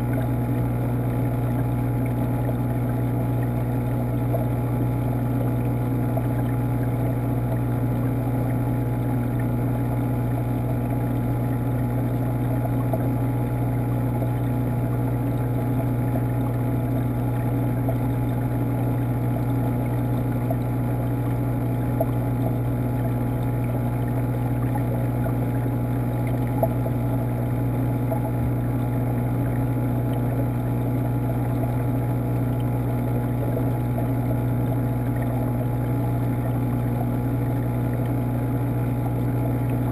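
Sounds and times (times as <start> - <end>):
aquarium pumps humming: 0.0 - 39.9
circulating water: 0.0 - 39.9.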